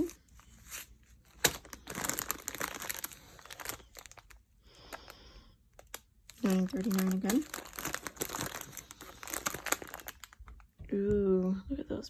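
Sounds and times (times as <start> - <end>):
plastic baggies crinkling: 0.0 - 10.8.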